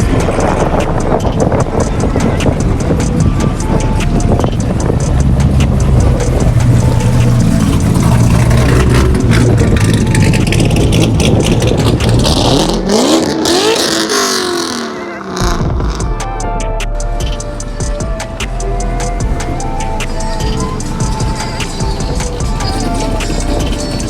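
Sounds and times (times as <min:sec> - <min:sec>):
car exhaust rumbling and revving: 0:00.0 - 0:24.0.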